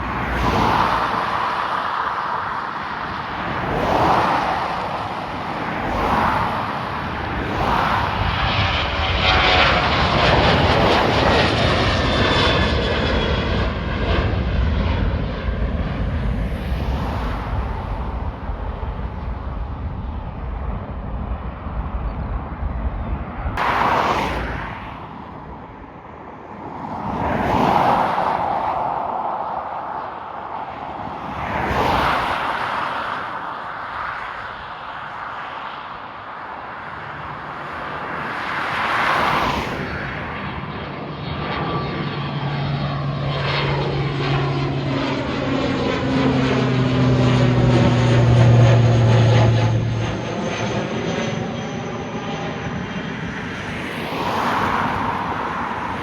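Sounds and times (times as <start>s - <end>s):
airplane flying overhead: 0.0s - 56.0s.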